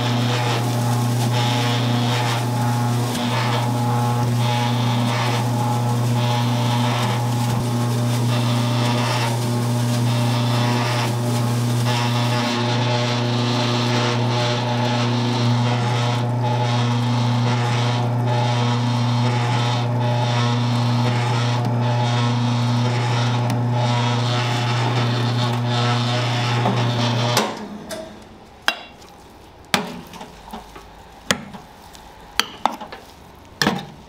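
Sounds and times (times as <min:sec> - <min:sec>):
electric meat mixer humming: 0:00.0 - 0:27.6.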